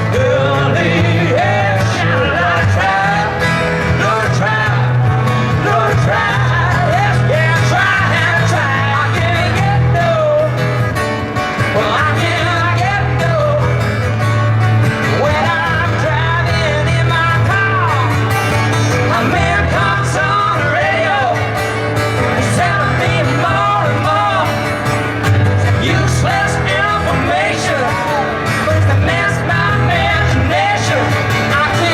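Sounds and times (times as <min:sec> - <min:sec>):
bass line: 0:00.0 - 0:31.9
guitar: 0:00.0 - 0:31.9.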